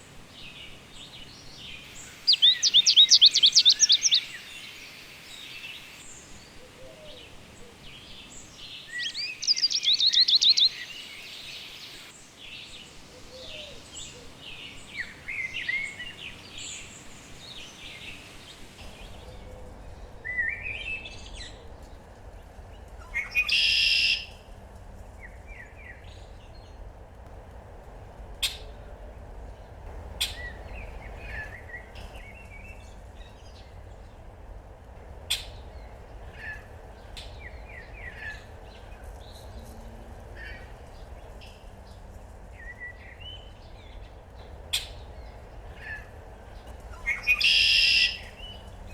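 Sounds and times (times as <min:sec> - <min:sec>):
songbirds singing and chirping: 0:00.0 - 0:48.9.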